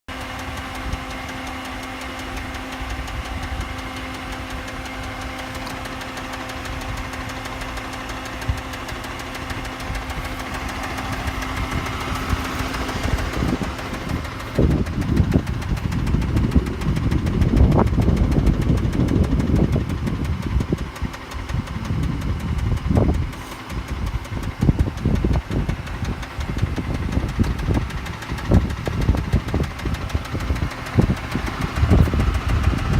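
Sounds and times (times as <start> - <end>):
engine running with a knock: 0.1 - 32.9
uneven low rumbling with hits: 2.4 - 32.9.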